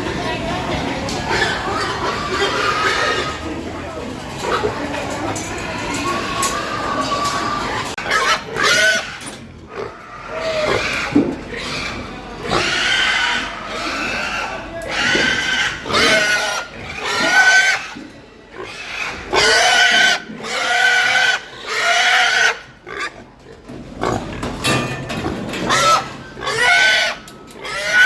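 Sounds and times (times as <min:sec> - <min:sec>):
pigs squealing: 0:01.1 - 0:03.6, 0:04.4 - 0:23.2, 0:25.3 - 0:28.0.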